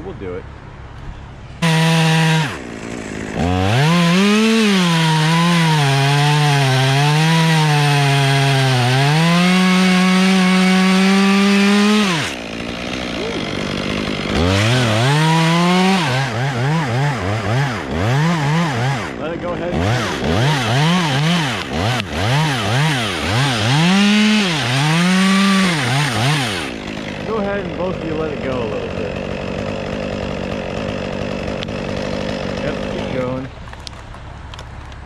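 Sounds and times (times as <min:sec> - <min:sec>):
chainsaw cutting wood: 0:01.6 - 0:34.7.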